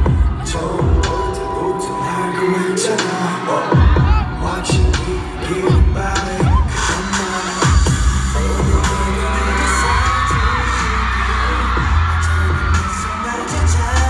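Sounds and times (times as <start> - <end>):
man singing into microphone: 0.0 - 14.0
pop backing track with deep bass: 0.0 - 14.0.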